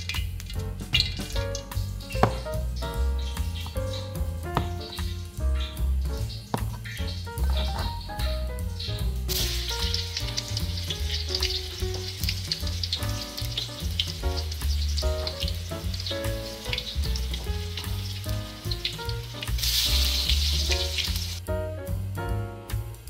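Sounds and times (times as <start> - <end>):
tofu sizzling in hot oil: 0.0 - 5.4, 8.1 - 22.1.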